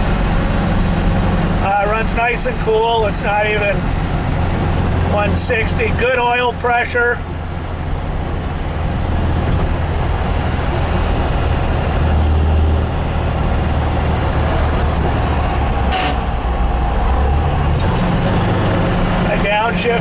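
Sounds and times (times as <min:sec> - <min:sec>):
car engine pulling: 0:00.0 - 0:20.0
road noise inside car: 0:00.0 - 0:20.0.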